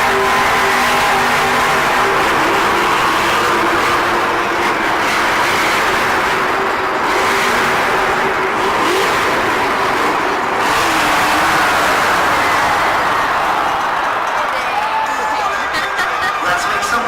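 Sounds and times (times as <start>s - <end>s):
monster truck engines running loud: 0.0s - 17.0s.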